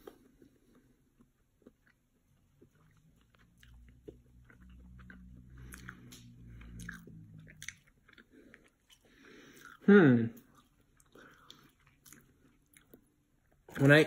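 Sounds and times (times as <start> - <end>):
close-up chewing: 0.0 - 13.9.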